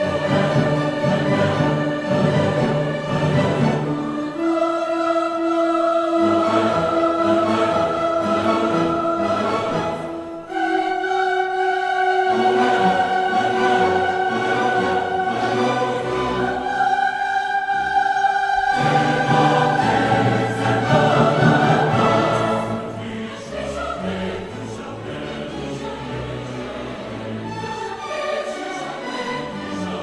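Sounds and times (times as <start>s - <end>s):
choir singing long-held chords: 0.0s - 30.0s.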